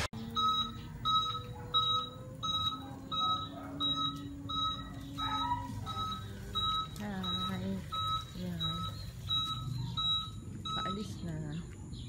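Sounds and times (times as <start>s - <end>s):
reverse warning beeper: 0.0s - 11.6s.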